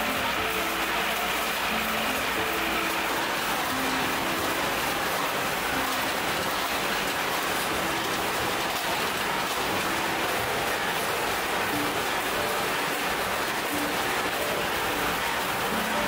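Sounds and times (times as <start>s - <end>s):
machinery hissing: 0.0s - 16.0s.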